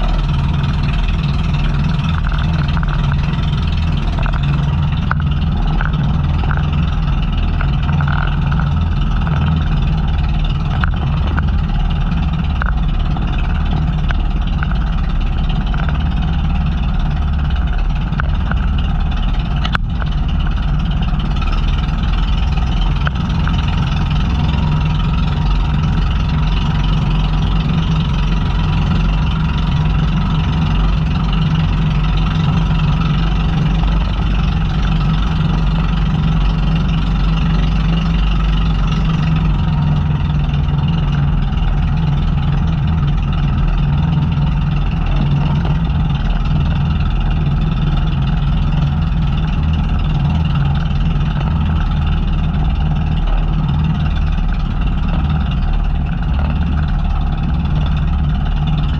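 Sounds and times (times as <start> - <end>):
boat engine running: 0.0 - 58.9.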